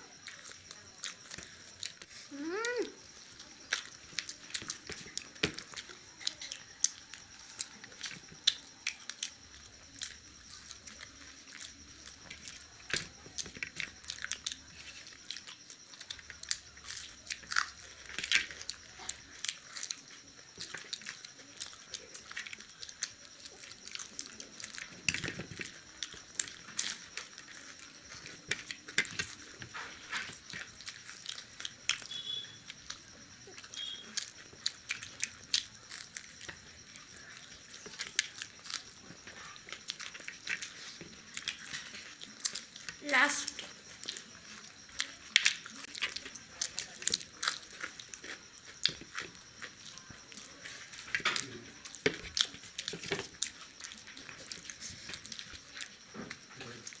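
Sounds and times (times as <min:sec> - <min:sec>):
chewing crunchy food: 0:00.0 - 0:57.0.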